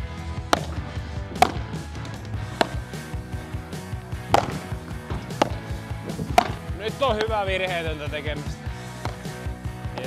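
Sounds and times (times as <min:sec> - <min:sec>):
padel ball struck with rackets: 0:00.4 - 0:07.6, 0:09.0 - 0:10.0.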